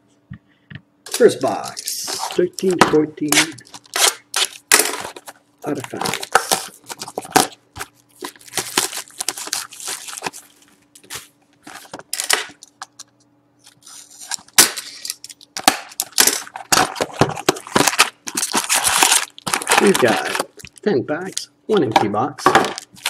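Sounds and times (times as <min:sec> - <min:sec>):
plastic shrink wrap crinkling and tearing: 0:01.1 - 0:20.8, 0:22.6 - 0:23.0.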